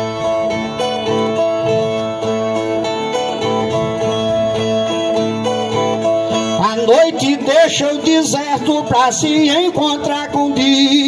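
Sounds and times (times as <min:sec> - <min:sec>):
plucked string instrument melody: 0:00.0 - 0:11.0.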